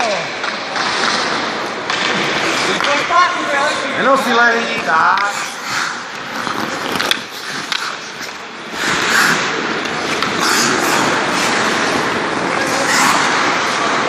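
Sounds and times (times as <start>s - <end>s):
skate blades scraping ice: 0.4s - 14.0s.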